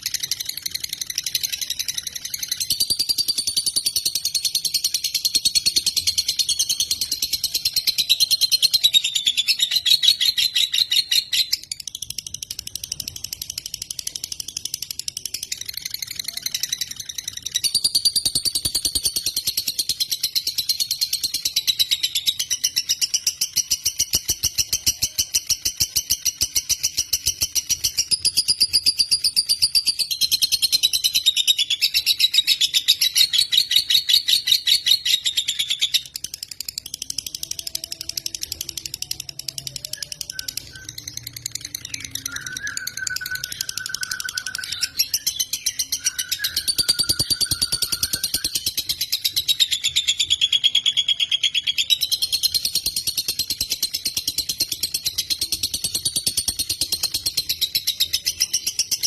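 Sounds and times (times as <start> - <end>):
bird chattering song: 0.0 - 59.0.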